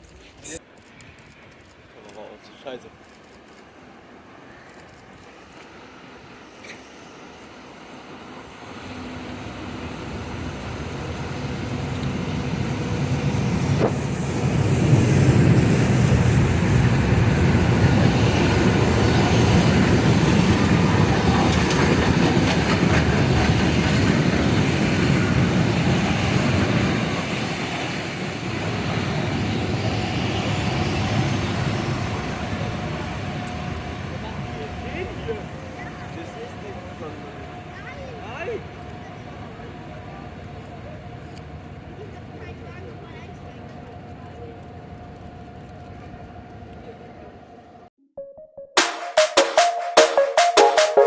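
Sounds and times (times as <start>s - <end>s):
train passing on rails: 0.5s - 47.9s.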